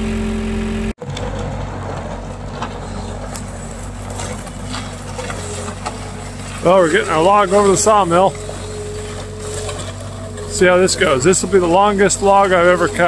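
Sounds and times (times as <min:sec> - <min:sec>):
engine hum with steady tones: 0:00.0 - 0:13.0
loader engine running: 0:00.0 - 0:13.0.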